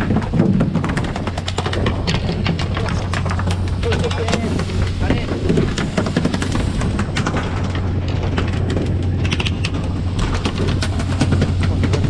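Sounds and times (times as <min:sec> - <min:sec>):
water spray hissing along hull: 0:00.0 - 0:08.8, 0:09.6 - 0:12.0
boat engine humming: 0:00.0 - 0:12.0.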